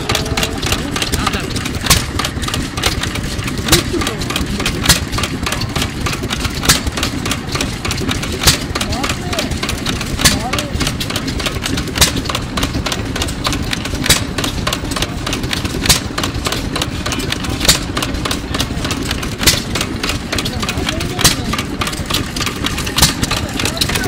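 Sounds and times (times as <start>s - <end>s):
engine clicking and low rumble: 0.0s - 24.0s
engine firing with sharp bangs: 0.0s - 24.0s.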